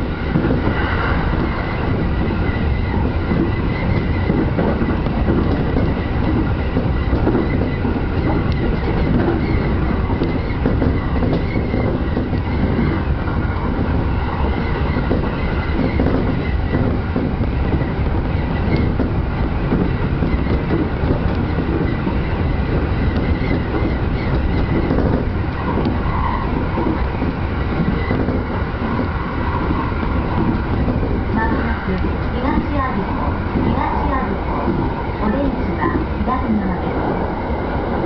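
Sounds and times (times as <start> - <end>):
clickety-clack over rail joints: 0.0 - 38.0
train wheels and motors rumbling: 0.0 - 38.0.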